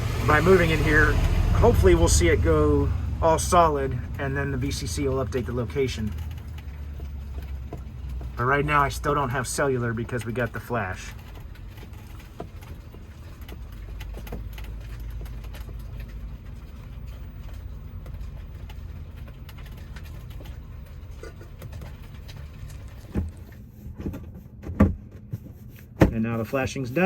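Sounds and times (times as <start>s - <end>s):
utility vehicle engine rumble: 0.0s - 25.9s.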